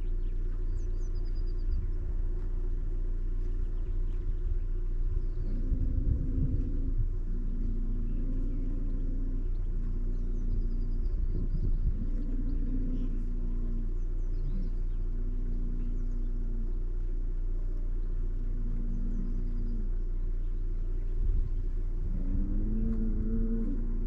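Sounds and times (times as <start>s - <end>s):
faint high bird chirps: 0.0s - 24.0s
low drawn-out tones: 0.0s - 24.0s
low rumble: 0.0s - 24.0s.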